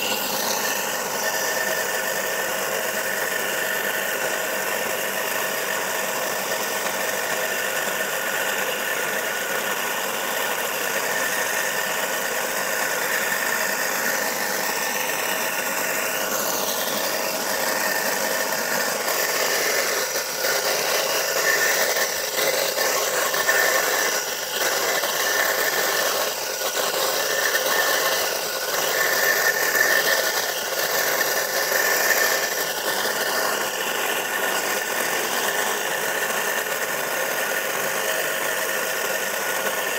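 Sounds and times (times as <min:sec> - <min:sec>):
electric motor whining with rattling: 0:00.0 - 0:39.9.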